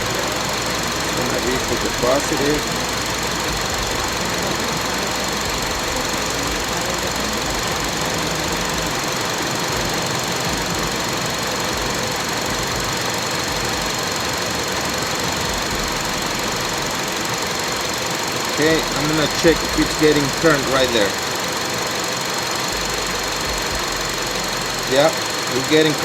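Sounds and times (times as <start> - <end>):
car engine idling: 0.0 - 26.0
faint high whine: 0.0 - 26.0.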